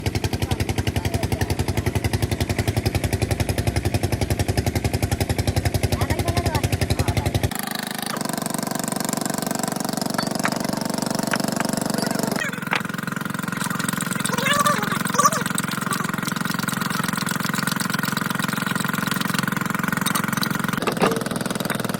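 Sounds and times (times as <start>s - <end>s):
engine running with pulsing beat: 0.0s - 21.9s.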